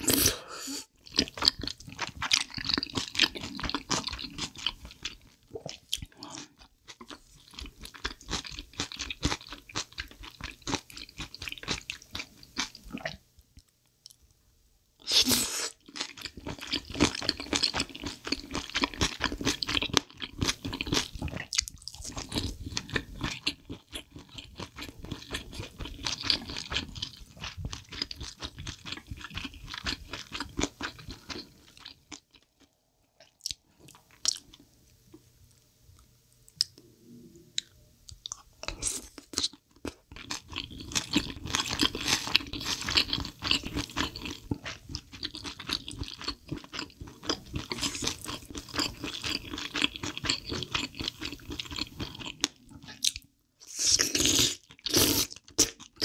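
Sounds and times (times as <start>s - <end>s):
wet chewing and crunching: 1.0s - 13.2s, 15.8s - 34.7s, 37.6s - 56.0s.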